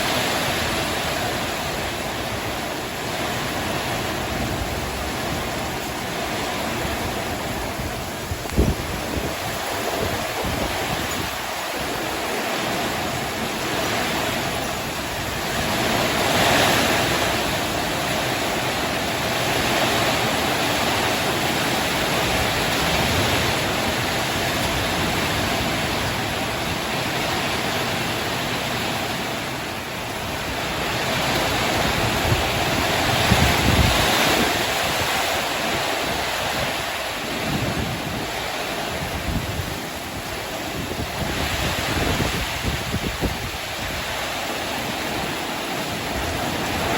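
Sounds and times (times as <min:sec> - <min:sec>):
heavy rain pouring: 0:00.0 - 0:46.9
wind gusts buffeting microphone: 0:00.0 - 0:46.9.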